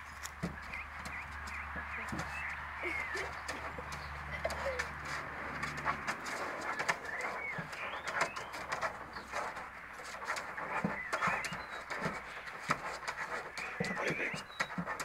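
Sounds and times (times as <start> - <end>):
paws clicking and scrabbling: 0.0 - 15.0.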